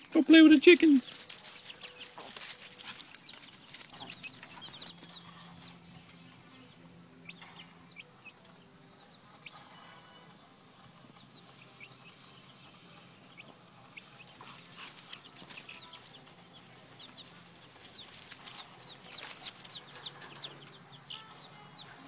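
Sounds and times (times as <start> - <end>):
chicks peeping: 0.0 - 22.0.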